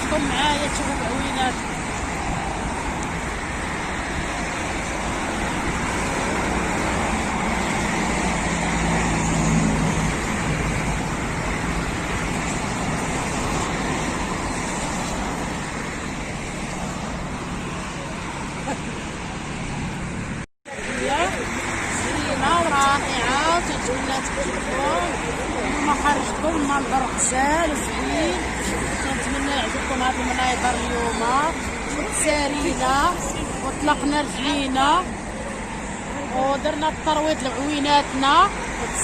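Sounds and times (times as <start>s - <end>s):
vehicle engine passing: 0.0s - 36.8s
road traffic noise: 0.0s - 39.0s.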